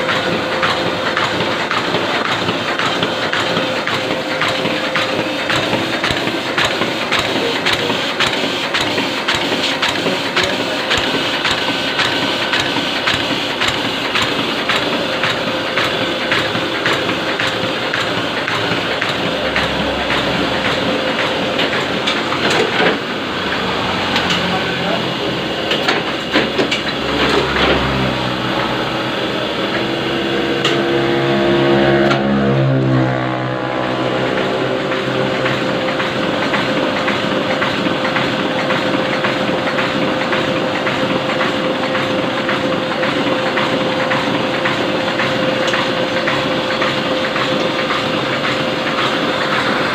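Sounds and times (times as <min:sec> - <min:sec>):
printing press clattering: 0:00.0 - 0:30.0, 0:33.9 - 0:49.9
mechanical hum: 0:00.0 - 0:49.9.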